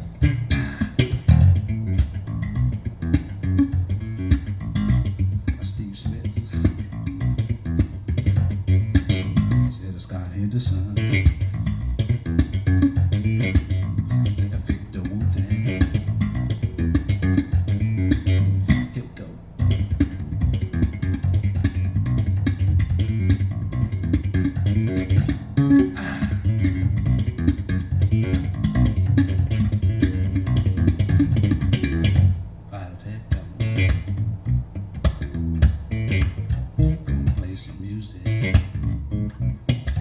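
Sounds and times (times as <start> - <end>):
bass guitar: 0.0 - 40.0
plucked guitar: 0.0 - 40.0.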